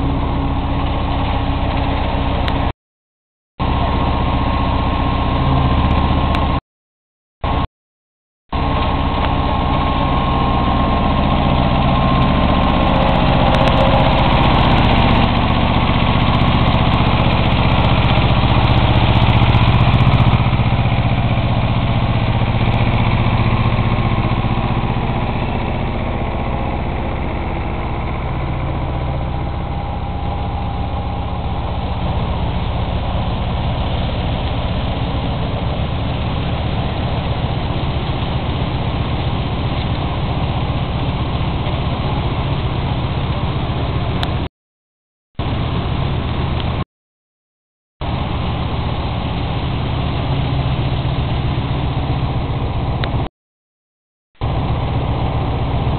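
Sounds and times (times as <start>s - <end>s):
threshing machine running: 0.0s - 2.7s, 3.6s - 6.6s, 8.5s - 44.5s, 45.4s - 46.8s, 48.0s - 53.3s, 54.4s - 55.9s
tractor engine running: 0.0s - 2.7s, 3.6s - 6.6s, 8.5s - 44.5s, 45.4s - 46.8s, 48.0s - 53.3s, 54.4s - 55.9s.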